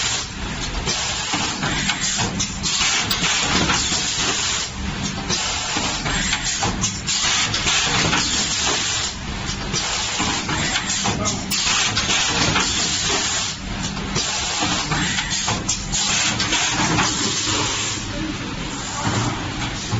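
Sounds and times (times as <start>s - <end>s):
packing machine hissing: 0.0s - 19.9s.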